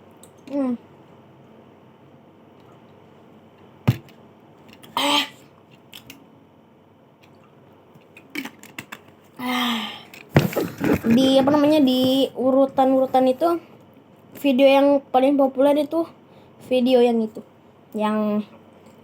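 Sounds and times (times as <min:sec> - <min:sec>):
low room hiss: 0:00.0 - 0:19.0.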